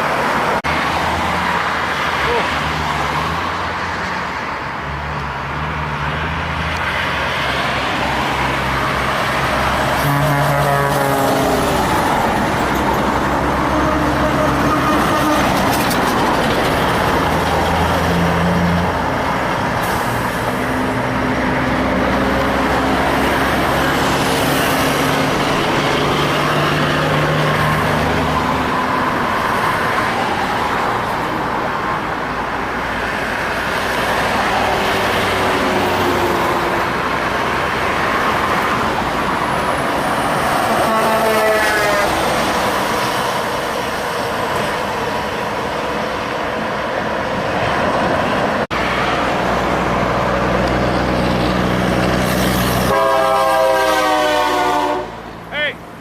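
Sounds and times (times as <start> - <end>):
diesel trucks in heavy traffic: 0.0 - 56.0.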